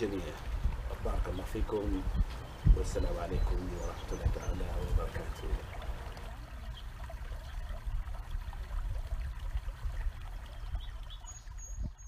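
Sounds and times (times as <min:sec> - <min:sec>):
wind buffeting microphone: 0:00.0 - 0:06.8, 0:07.6 - 0:12.0.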